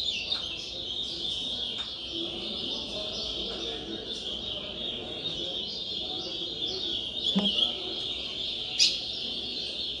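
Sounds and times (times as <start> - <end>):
chorus of songbirds singing: 0.0 - 10.0
low background murmur: 0.0 - 10.0.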